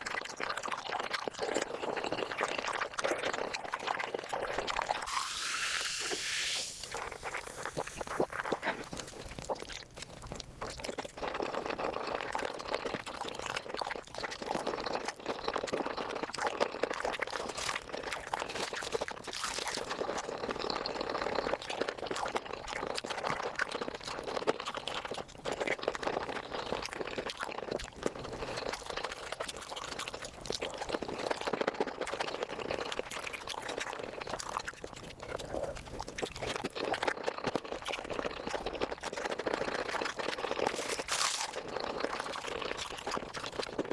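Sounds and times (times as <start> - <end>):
wet crunching and chewing: 0.0 - 43.9.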